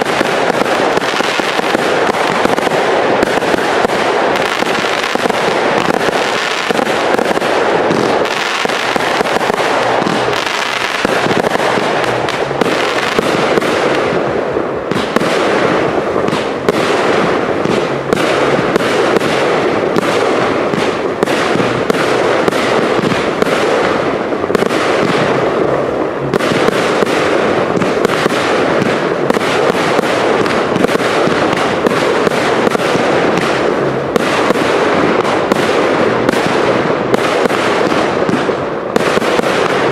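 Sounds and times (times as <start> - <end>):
firework barrage bangs: 0.0 - 39.9.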